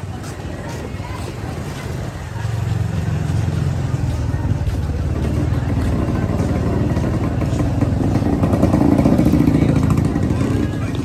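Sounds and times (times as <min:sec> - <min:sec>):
motorcycle engine running: 0:00.3 - 0:11.0.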